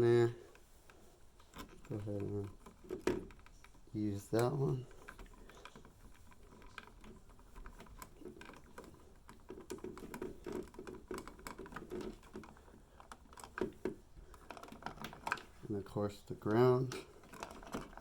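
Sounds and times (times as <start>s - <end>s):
wires and connectors clicking: 0.0s - 18.0s.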